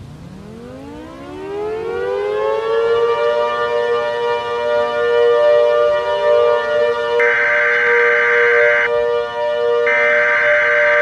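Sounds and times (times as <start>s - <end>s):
lower siren tone: 0.2s - 11.0s
warning siren wailing: 0.2s - 11.0s.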